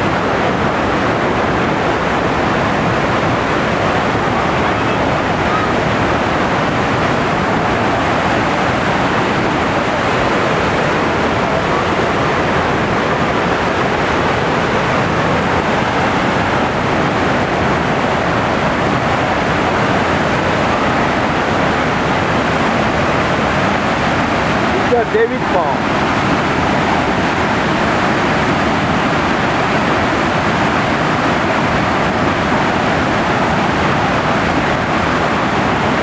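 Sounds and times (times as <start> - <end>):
waterfall and river rushing: 0.0 - 36.0.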